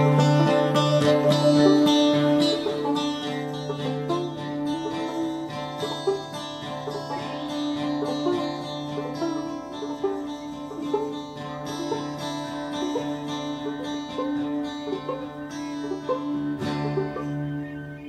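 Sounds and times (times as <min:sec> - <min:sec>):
held low tones: 0:00.0 - 0:18.0
plucked string notes: 0:00.0 - 0:18.0.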